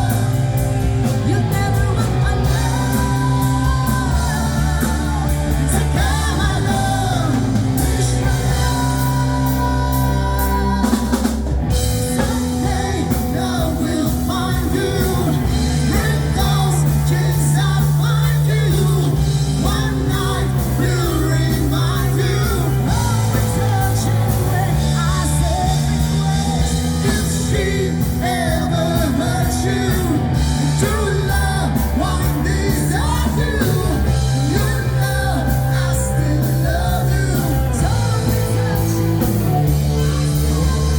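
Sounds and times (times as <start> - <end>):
bass guitar: 0.0 - 40.9
drum kit: 0.0 - 40.9
electric guitar: 0.0 - 40.9
person singing: 0.0 - 40.9.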